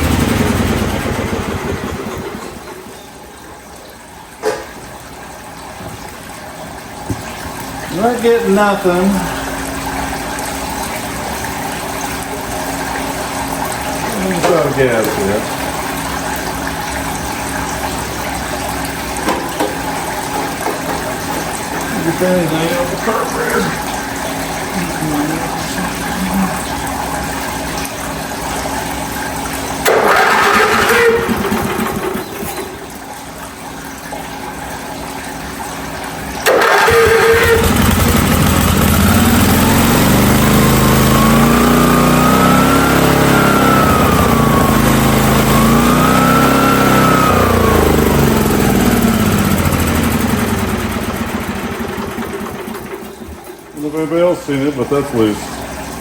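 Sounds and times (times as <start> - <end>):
pressure washer petrol engine: 0.0 - 56.0.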